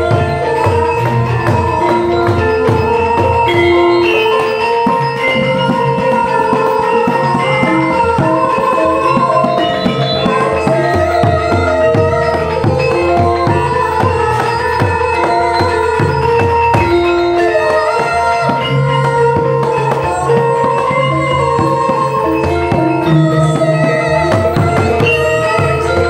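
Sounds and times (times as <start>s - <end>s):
hand drums beating: 0.0s - 26.0s
metallophones and gongs: 0.0s - 26.0s.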